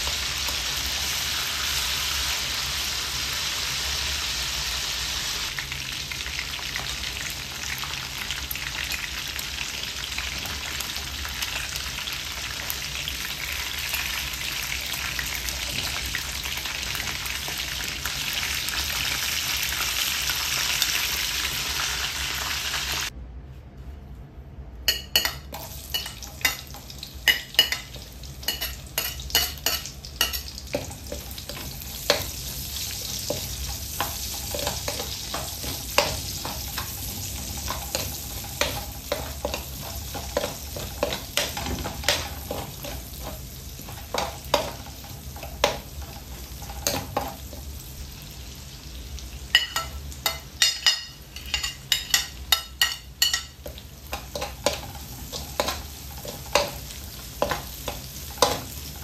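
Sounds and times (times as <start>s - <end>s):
food sizzling in hot oil: 0.0s - 23.1s, 25.0s - 59.0s.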